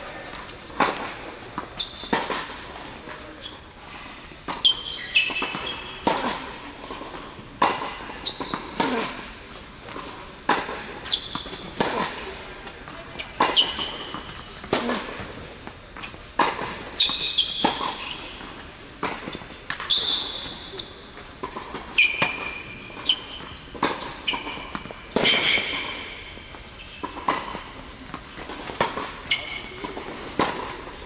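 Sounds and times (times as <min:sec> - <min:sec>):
racket striking tennis ball: 0:00.7 - 0:02.9, 0:04.4 - 0:20.8, 0:21.4 - 0:31.0
sneakers squeaking on court: 0:01.0 - 0:03.7, 0:04.5 - 0:09.3, 0:10.0 - 0:12.3, 0:13.2 - 0:31.0.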